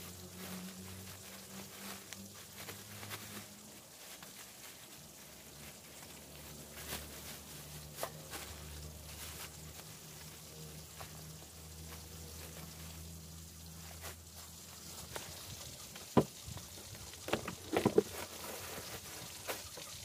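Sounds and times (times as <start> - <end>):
plastic bags rustling and crinkling: 0.0 - 20.0.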